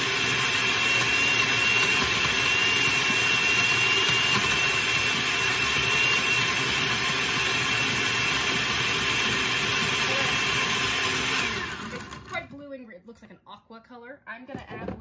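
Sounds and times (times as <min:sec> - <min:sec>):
blender running: 0:00.0 - 0:12.7.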